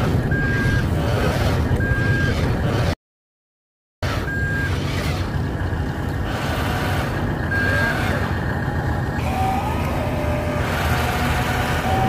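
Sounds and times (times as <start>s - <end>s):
toy truck engine rumble: 0.0s - 3.0s, 4.0s - 12.0s.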